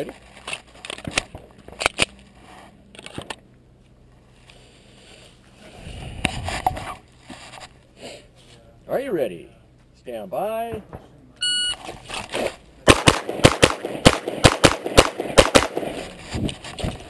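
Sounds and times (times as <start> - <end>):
low rumbling noise: 1.3 - 17.0.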